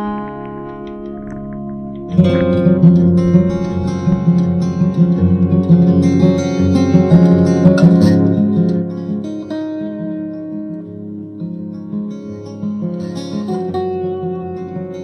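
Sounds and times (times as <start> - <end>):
acoustic guitar music through speaker: 0.0 - 15.0.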